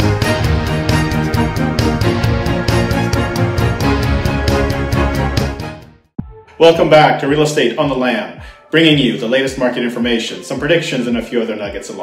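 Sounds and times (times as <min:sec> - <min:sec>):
instrumental theme music: 0:00.0 - 0:12.0.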